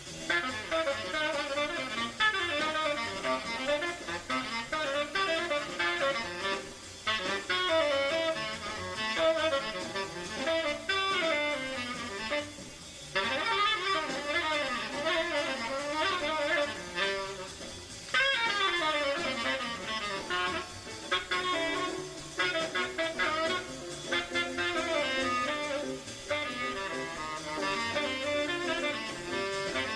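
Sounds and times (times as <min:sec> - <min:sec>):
tenor saxophone playing bebop: 0:00.0 - 0:29.9.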